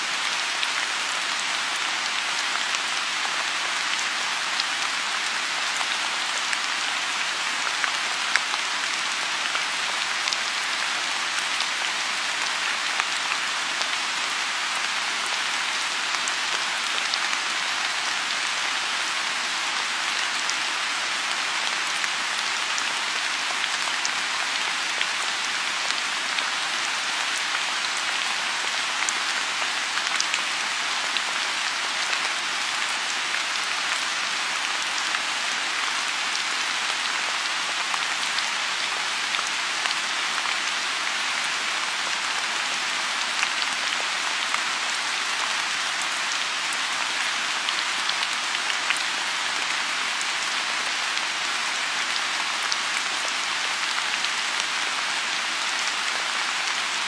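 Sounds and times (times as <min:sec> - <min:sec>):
rain falling on a pond: 0:00.0 - 0:57.0.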